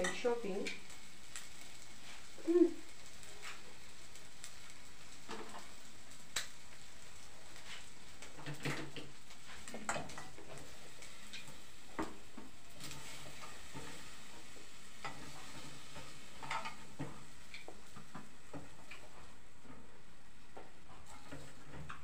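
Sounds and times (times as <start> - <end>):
meat sizzling in a pot: 0.0 - 22.0.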